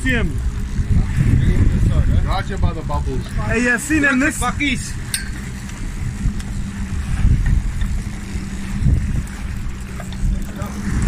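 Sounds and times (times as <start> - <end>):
boat wake wash: 0.0 - 11.0
outboard motors droning: 0.0 - 11.0
wind buffeting microphone: 0.0 - 11.0.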